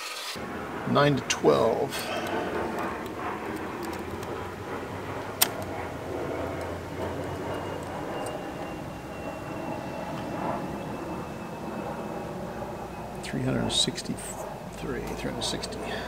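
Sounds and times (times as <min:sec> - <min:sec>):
faint hum: 0:00.4 - 0:16.0.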